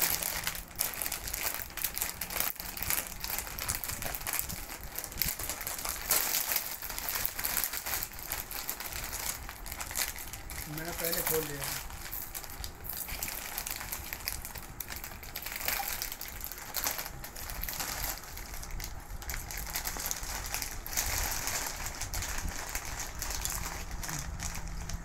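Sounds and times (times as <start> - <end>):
bag tearing open: 0.0 - 25.0
plastic chip bags crinkling: 0.0 - 25.0.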